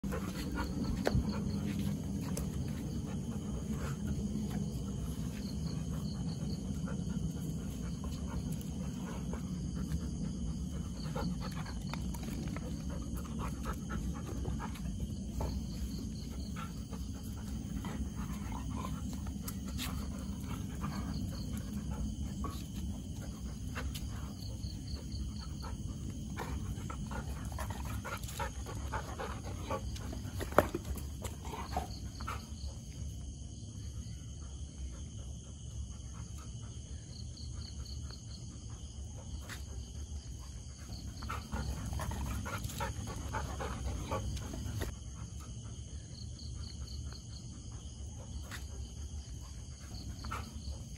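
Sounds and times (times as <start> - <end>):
dogs growling and snarling: 0.0 - 33.3, 37.8 - 45.6.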